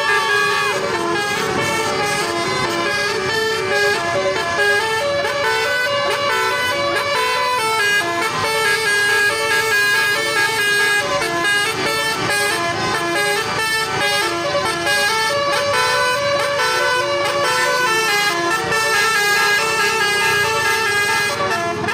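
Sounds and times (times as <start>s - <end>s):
multi-tone musical horn melody: 0.0s - 21.9s.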